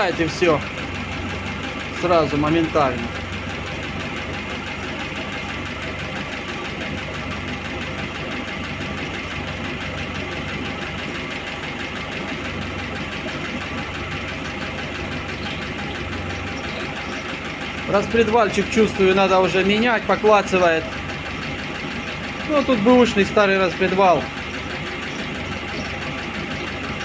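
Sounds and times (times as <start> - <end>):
car engine idling with clatter: 0.0 - 27.0.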